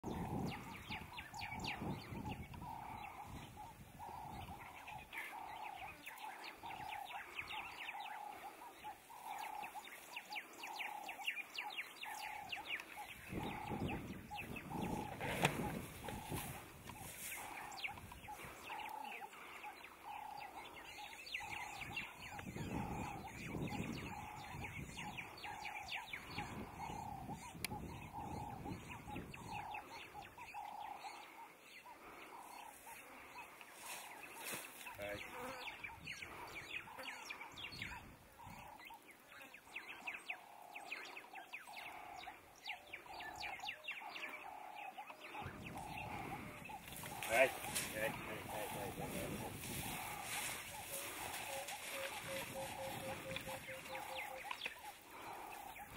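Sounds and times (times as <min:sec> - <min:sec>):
faint bird chirping: 0:00.1 - 0:55.9.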